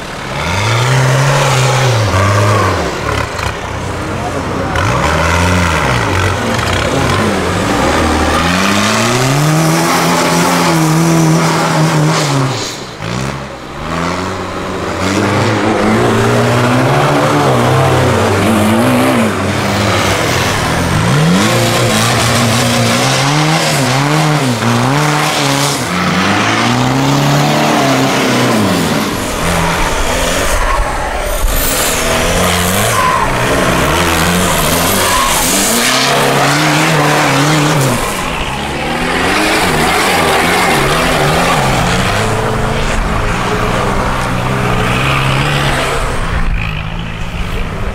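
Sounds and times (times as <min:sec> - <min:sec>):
truck engines revving hard: 0:00.0 - 0:47.9.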